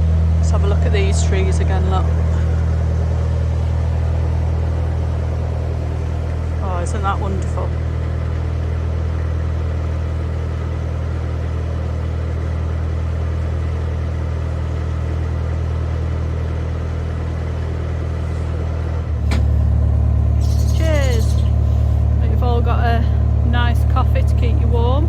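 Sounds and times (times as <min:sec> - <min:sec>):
diesel boat engine droning: 0:00.0 - 0:25.0.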